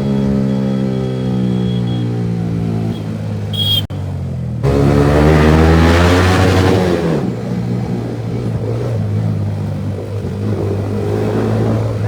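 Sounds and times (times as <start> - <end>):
motorcycle accelerating: 0.0 - 12.0.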